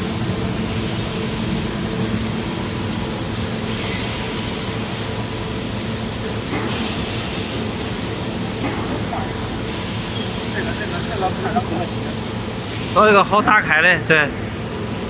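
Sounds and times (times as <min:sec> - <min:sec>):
industrial machinery humming: 0:00.0 - 0:15.0.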